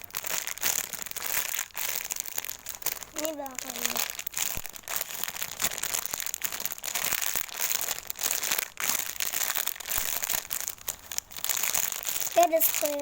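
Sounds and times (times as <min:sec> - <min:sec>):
squishy toy crinkling and rustling: 0:00.0 - 0:13.0.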